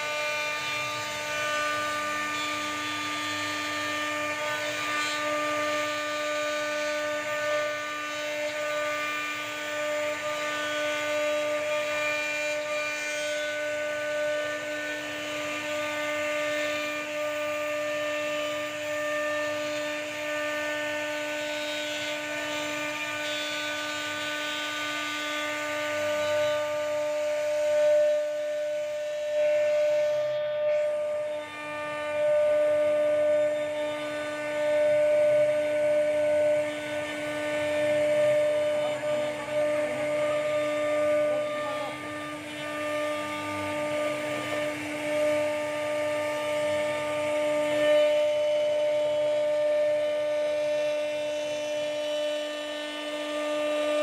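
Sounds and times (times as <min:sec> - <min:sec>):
router spindle motor whine: 0:00.0 - 0:54.0.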